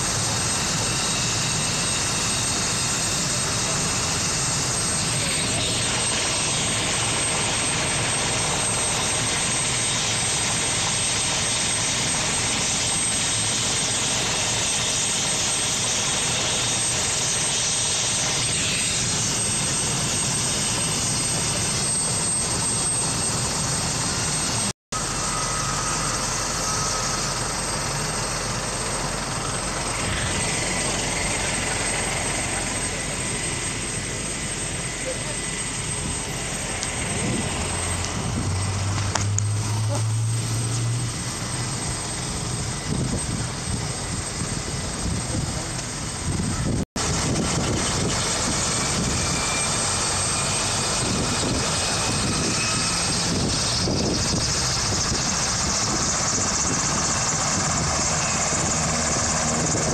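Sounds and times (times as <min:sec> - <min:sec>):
helicopter turbine engines running: 0:00.0 - 0:59.9.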